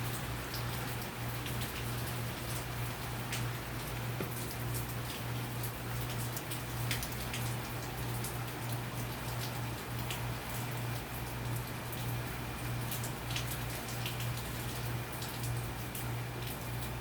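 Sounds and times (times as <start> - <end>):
rain drop ticks: 0.1 - 17.0.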